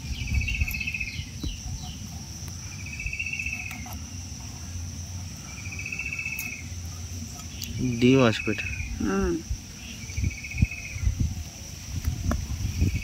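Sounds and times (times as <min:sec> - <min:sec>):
insect fast-pulsed high trill: 0:00.0 - 0:13.0
insects high-pitched buzz: 0:00.0 - 0:13.0.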